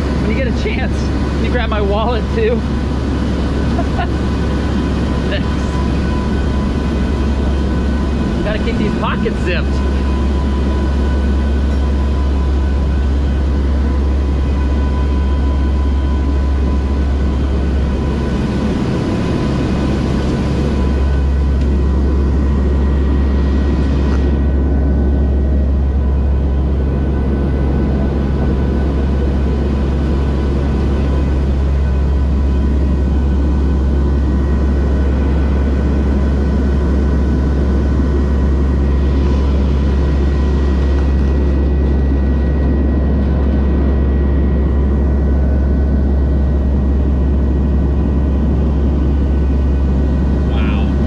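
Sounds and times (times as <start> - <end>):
turboprop cabin drone: 0.0 - 51.0.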